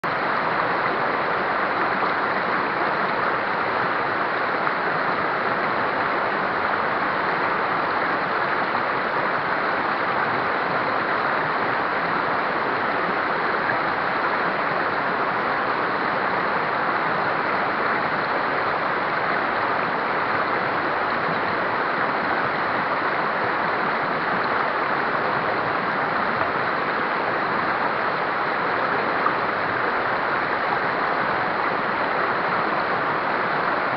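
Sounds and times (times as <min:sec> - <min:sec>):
river rapids rushing: 0:00.0 - 0:33.9.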